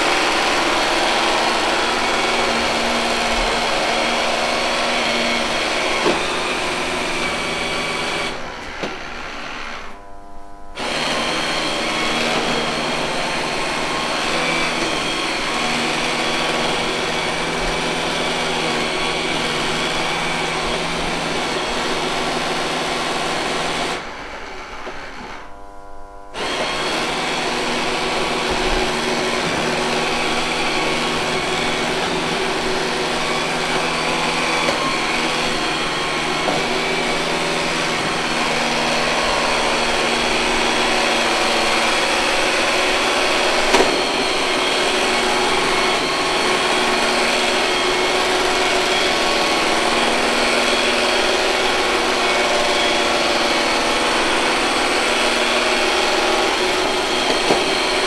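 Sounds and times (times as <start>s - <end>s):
robot vacuum cleaner whirring: 0.0s - 25.6s, 26.3s - 58.0s.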